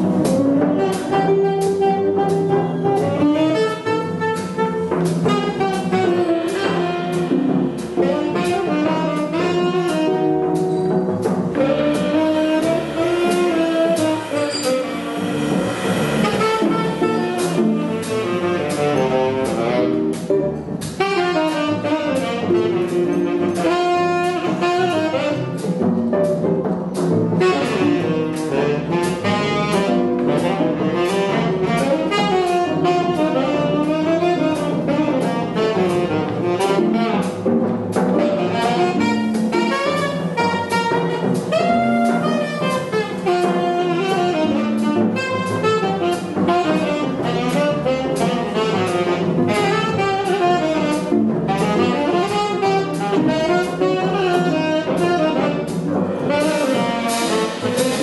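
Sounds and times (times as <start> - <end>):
double bass: 0.0 - 58.0
drum kit on cymbals and drums: 0.0 - 58.0
tenor saxophone melody: 0.3 - 10.8, 11.4 - 20.3, 21.0 - 25.6, 27.4 - 37.6, 38.2 - 58.0.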